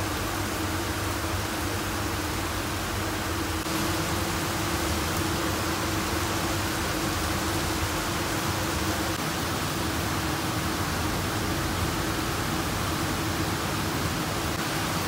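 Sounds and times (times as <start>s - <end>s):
train cabin hiss and hum: 0.0s - 15.0s.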